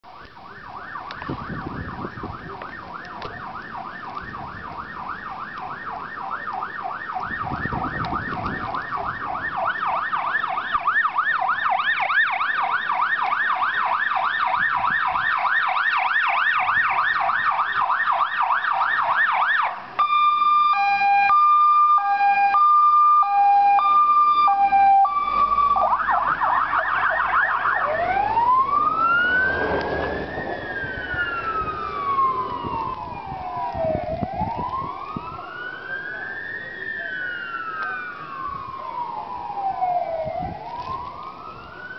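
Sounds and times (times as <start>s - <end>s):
emergency vehicle sirens: 0.0s - 41.9s.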